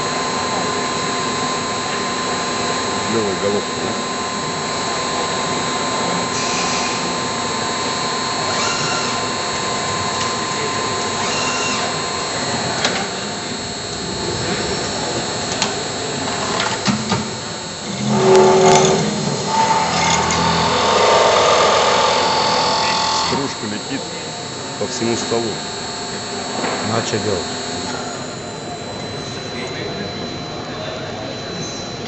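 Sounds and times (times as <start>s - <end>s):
loud pitched whine: 0.0s - 32.0s
machine cutting metal whining: 0.0s - 32.0s.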